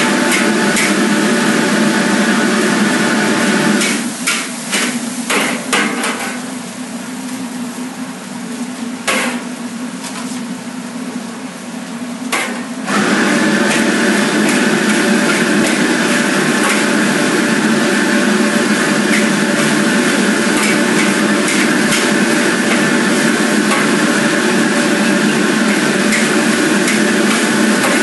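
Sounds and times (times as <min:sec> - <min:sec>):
gas wok burner roaring: 0:00.0 - 0:28.0.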